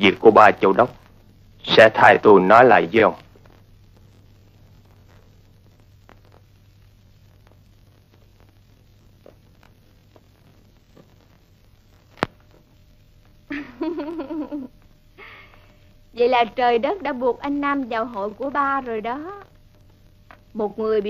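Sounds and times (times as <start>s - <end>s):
film soundtrack hum and hiss: 0.0s - 21.0s
faint ticks: 3.2s - 16.2s, 16.8s - 21.0s.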